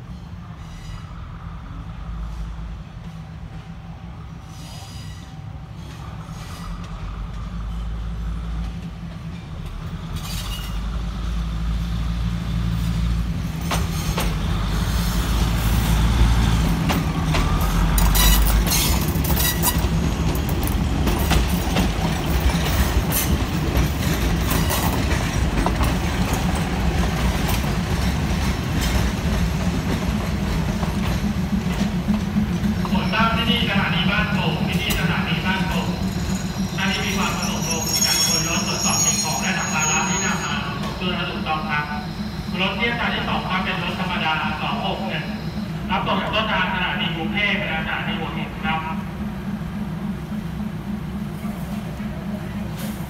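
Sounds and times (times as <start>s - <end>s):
diesel train engine drone: 0.0s - 53.0s.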